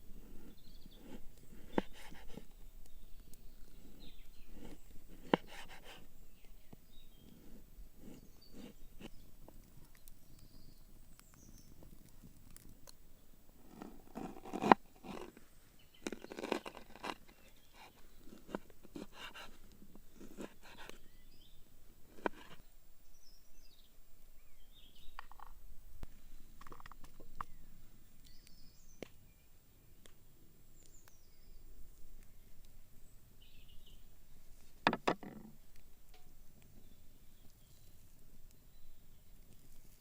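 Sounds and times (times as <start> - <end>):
birds chirping faintly: 0.0 - 40.0.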